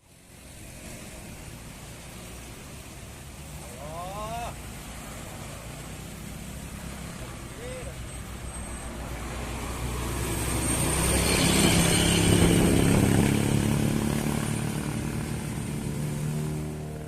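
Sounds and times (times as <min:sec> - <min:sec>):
bus diesel engine labouring: 0:00.0 - 0:17.0.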